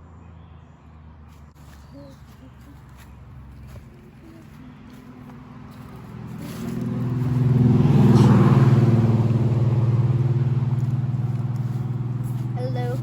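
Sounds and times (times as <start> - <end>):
vehicle engine running: 1.2 - 13.0.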